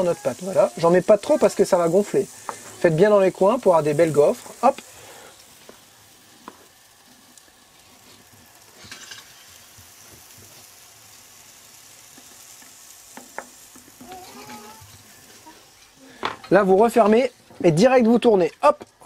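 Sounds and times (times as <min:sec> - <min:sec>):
waffle batter sizzling: 0:00.0 - 0:19.0.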